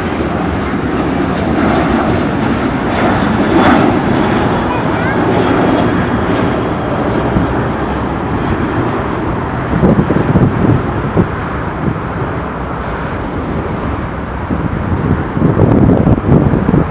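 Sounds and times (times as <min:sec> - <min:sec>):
jet engine rumble: 0:00.0 - 0:16.9
wind buffeting microphone: 0:00.0 - 0:16.9.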